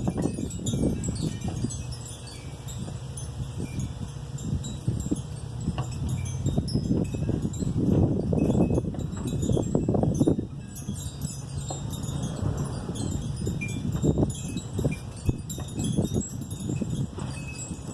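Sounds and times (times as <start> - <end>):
high tinkling tones: 0.0 - 17.9
hummingbird wings humming: 0.0 - 17.9.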